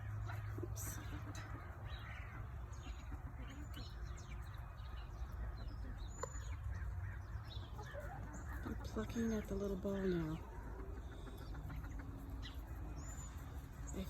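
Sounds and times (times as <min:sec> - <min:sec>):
chickens chirping: 0:00.0 - 0:14.0.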